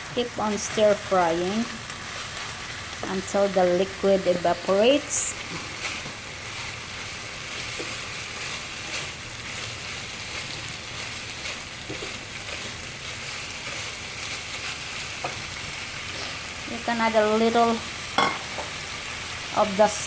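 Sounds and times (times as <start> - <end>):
meat sizzling in a hot pan: 0.0 - 20.0.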